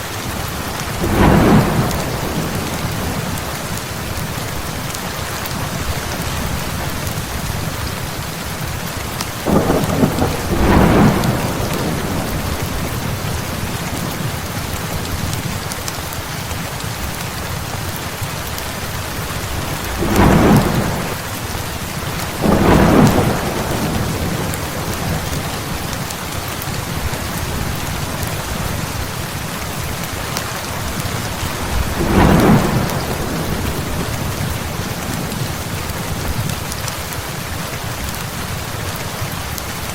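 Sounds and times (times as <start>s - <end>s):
heavy rain falling: 0.0s - 39.9s
thunder rumbling: 0.7s - 17.2s, 18.9s - 36.8s.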